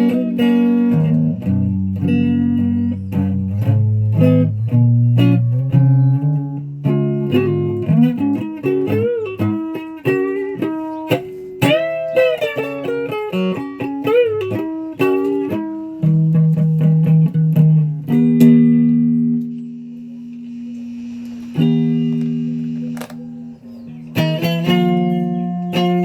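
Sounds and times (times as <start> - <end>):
guitar plucked notes: 0.0 - 19.6, 21.6 - 26.0.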